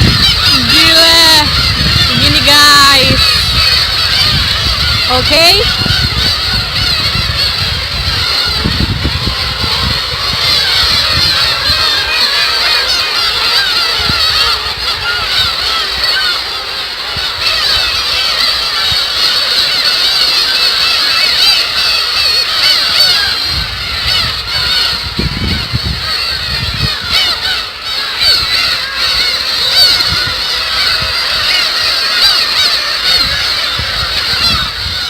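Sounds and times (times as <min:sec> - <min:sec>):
gulls calling: 0:00.0 - 0:35.0.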